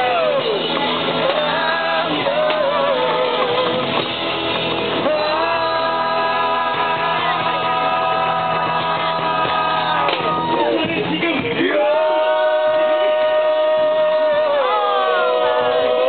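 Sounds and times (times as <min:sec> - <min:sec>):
person singing: 0:00.0 - 0:04.1, 0:05.0 - 0:16.0
guitars: 0:00.0 - 0:16.0
live band playing: 0:00.0 - 0:16.0.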